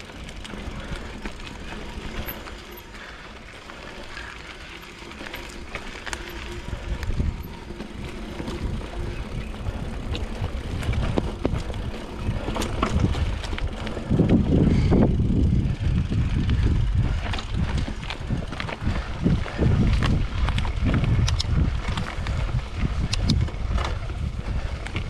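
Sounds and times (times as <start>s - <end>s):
bike clicks and rattles: 0.0s - 25.0s
bike tyres rolling on dirt: 0.0s - 25.0s.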